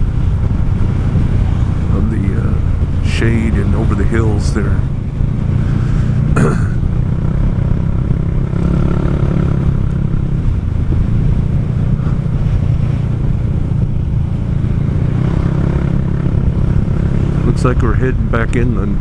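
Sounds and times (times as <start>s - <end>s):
road noise: 0.0s - 19.0s
scooter engine running steadily: 0.0s - 19.0s.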